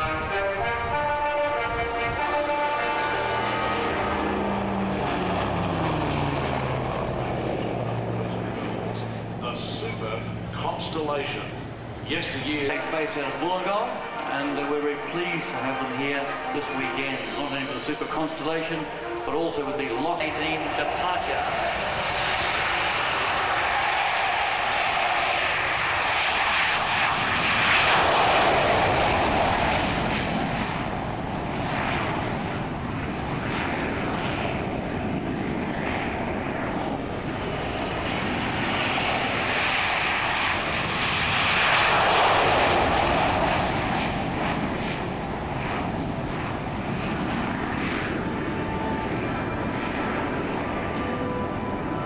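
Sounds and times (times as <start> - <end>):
aircraft engines running: 0.0 - 52.0.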